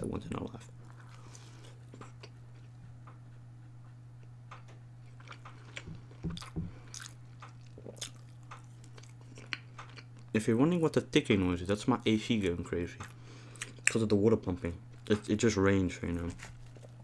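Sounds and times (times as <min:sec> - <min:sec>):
chewing crispy food: 0:00.6 - 0:11.0, 0:12.4 - 0:14.2, 0:14.9 - 0:17.0.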